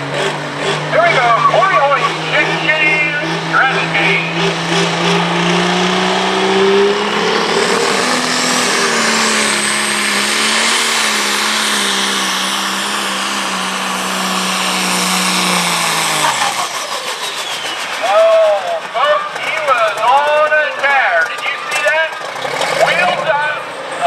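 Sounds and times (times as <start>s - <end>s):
high turbo whine: 0.0s - 24.0s
tractor diesel engine at full power: 0.0s - 24.0s.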